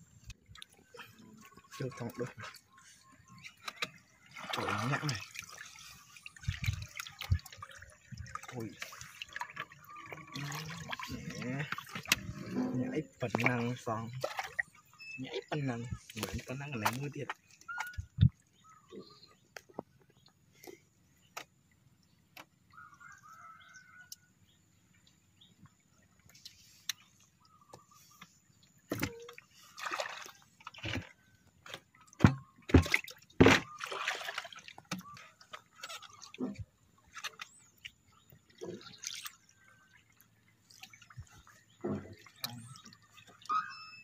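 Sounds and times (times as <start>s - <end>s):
water splashing and dripping: 0.0s - 44.0s.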